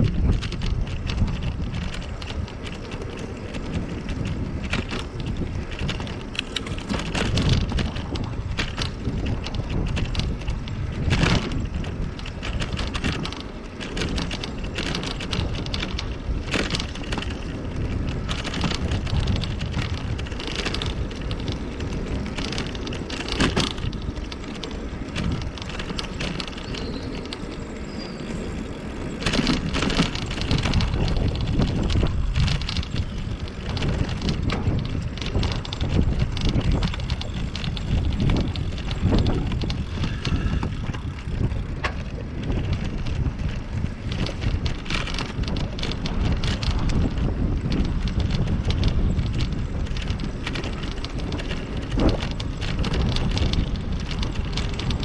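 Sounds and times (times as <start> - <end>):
bike clicks and rattles: 0.0 - 55.0
tyre rumble on road: 0.0 - 55.0
wind buffeting microphone: 0.0 - 55.0.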